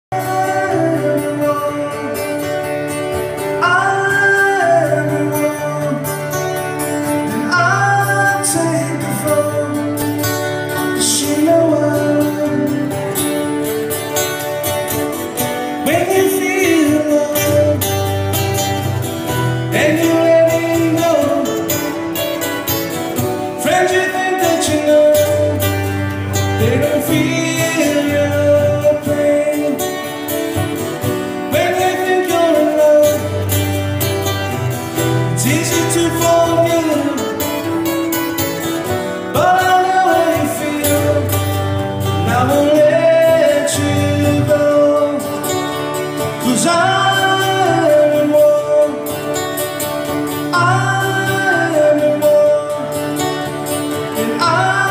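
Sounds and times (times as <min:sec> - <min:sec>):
person singing: 0:00.0 - 0:13.5, 0:23.3 - 0:54.9
acoustic guitar strumming: 0:00.1 - 0:54.9.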